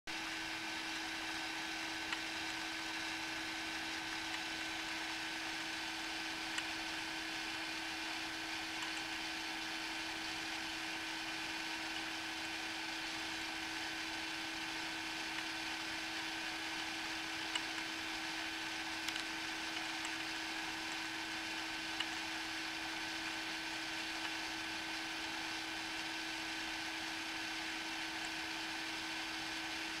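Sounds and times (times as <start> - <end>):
small electric motor humming: 0.1 - 30.0.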